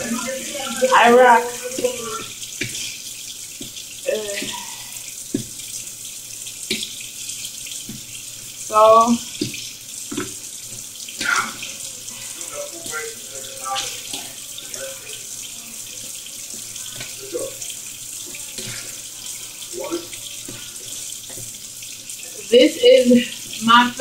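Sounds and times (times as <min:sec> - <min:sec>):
kitchen tap running into sink: 0:00.0 - 0:24.0.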